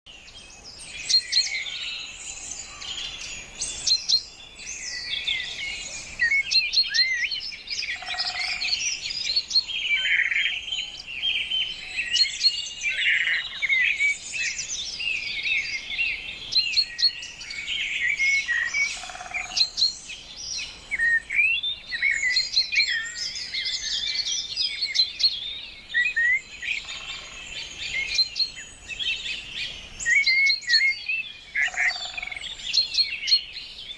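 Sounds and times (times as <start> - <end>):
birds chirping: 0.1 - 33.9
lower bird call: 1.0 - 33.9.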